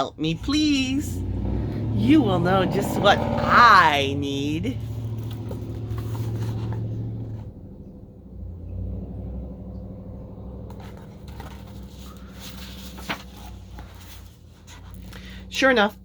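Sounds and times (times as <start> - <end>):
low steady hum and rumble: 0.0 - 16.0.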